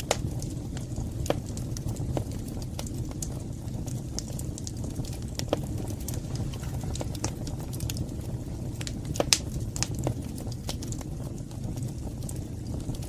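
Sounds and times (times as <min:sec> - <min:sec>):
fire crackling and popping: 0:00.0 - 0:13.0
fire roaring: 0:00.0 - 0:13.0.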